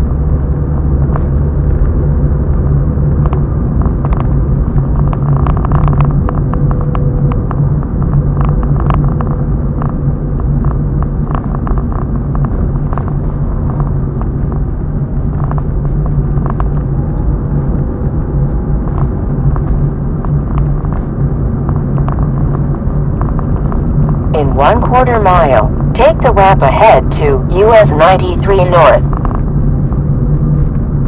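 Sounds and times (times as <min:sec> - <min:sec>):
car road and engine rumble: 0:00.0 - 0:26.0, 0:29.1 - 0:31.0.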